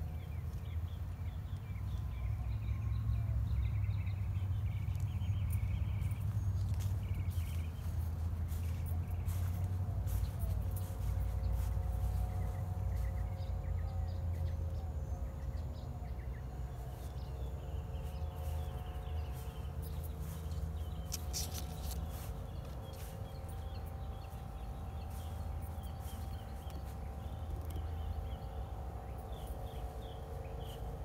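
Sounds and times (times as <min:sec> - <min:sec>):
faint steady hum: 0:00.0 - 0:31.0
steady low rumble: 0:00.0 - 0:31.0.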